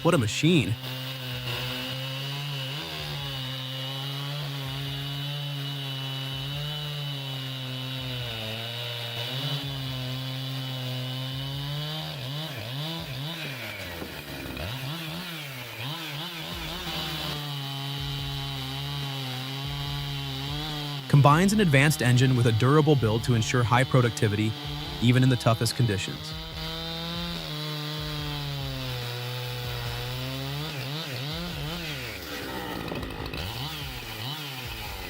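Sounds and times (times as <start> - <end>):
chainsaw cutting log: 0.0 - 35.0.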